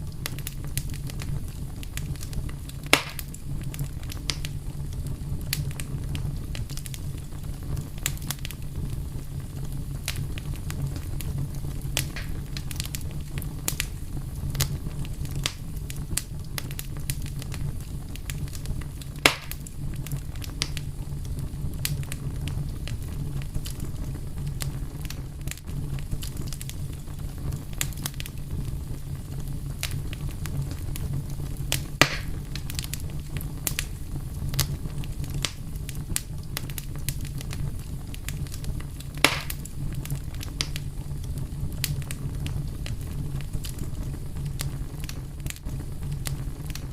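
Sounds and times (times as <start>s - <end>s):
steady low rumble: 0.0s - 46.9s
wood fire crackling: 0.0s - 46.9s.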